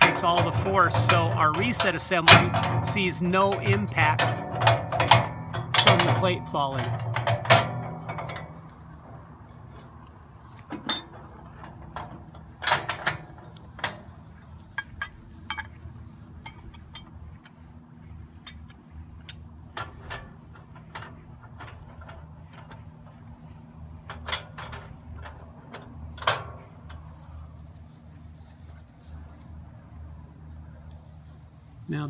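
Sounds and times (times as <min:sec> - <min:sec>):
steel parts clinking and clanking: 0:00.0 - 0:27.7.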